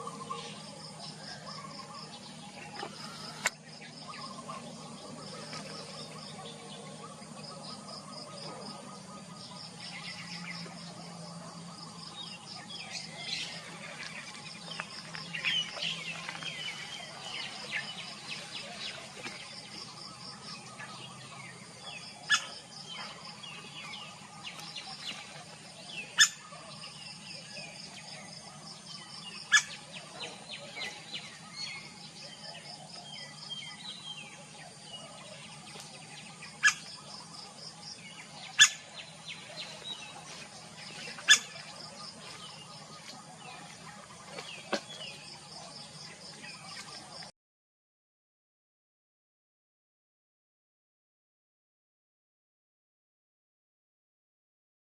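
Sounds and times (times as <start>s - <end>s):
woodpecker pulsing trills: 0.0s - 45.7s
birds chirping: 0.0s - 47.3s.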